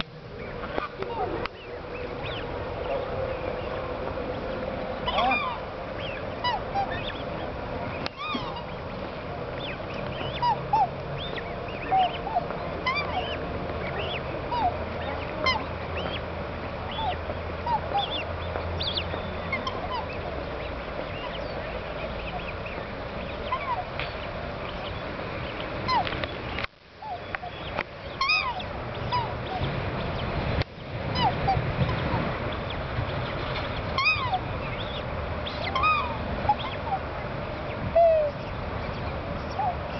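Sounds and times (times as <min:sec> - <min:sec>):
cygnets peeping: 0:00.0 - 0:39.9
faint steady hum: 0:00.0 - 0:39.9.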